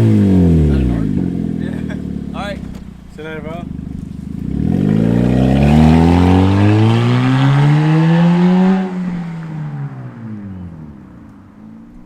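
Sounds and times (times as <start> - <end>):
unmuffled car exhaust accelerating: 0.0 - 12.0.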